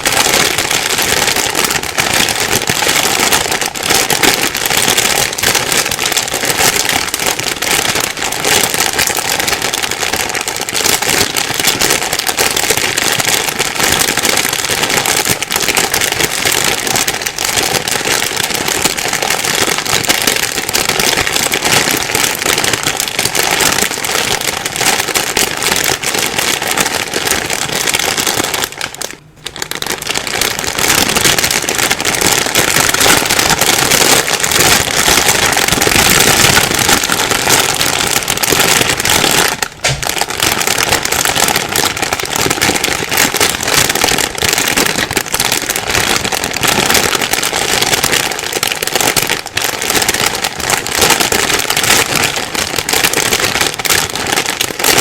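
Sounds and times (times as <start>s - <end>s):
plastic bag crackling: 0.0s - 55.0s.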